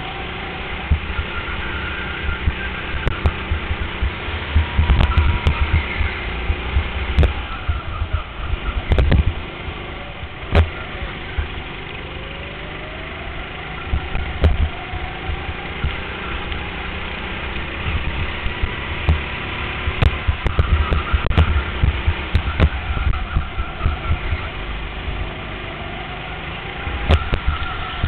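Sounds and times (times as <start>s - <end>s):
go-kart engine accelerating: 0.0s - 28.0s.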